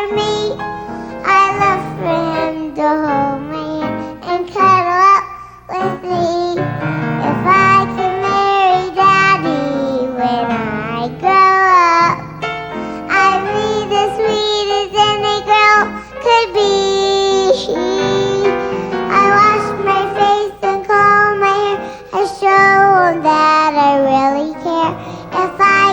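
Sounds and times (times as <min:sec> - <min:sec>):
music: 0:00.0 - 0:25.9
high child-like voice singing: 0:01.2 - 0:12.2, 0:13.1 - 0:25.9.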